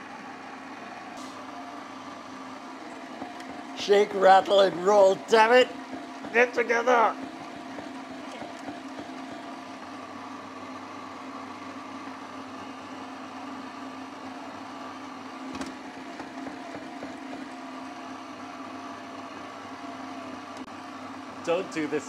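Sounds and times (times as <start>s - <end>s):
stand mixer motor whine: 0.0s - 22.0s.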